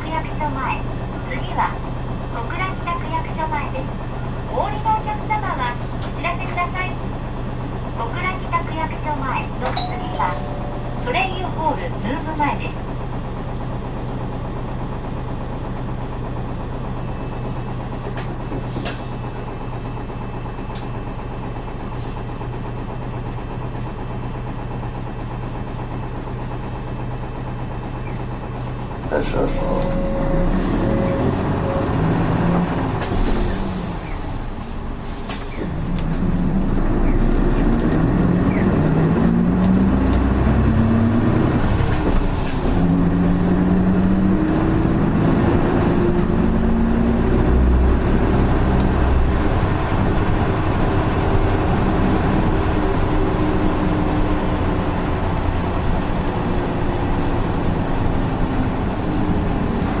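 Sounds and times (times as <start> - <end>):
bus engine and gear whine: 0.0 - 60.0.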